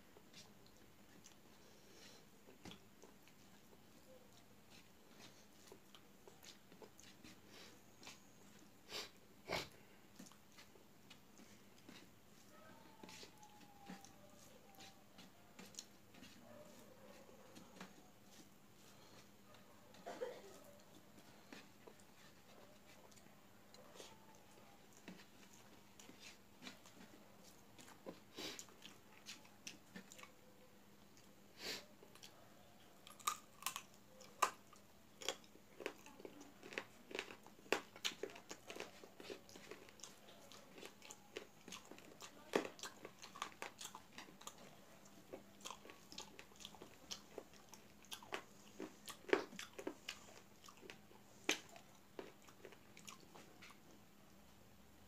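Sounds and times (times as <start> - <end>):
person chewing and lip smacking: 0.2 - 16.8, 20.8 - 30.4, 32.0 - 54.0.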